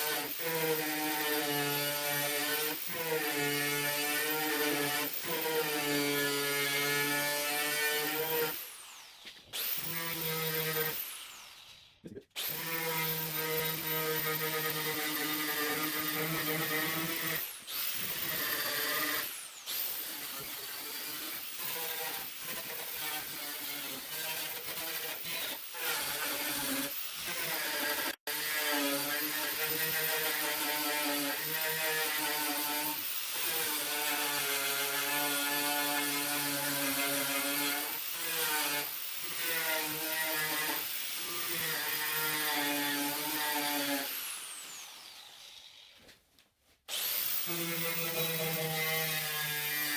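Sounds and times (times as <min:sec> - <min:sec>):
power tool stripping metal: 0:00.0 - 0:46.0.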